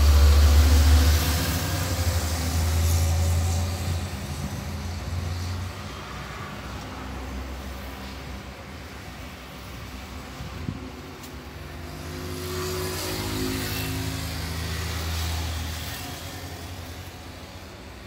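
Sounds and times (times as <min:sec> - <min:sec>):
vehicle rumbling past: 0:00.0 - 0:08.5, 0:09.9 - 0:17.3.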